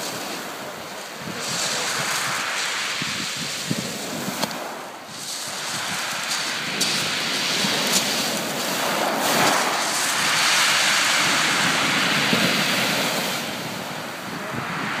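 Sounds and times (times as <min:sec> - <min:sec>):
waves breaking on shingle: 0:00.0 - 0:15.0.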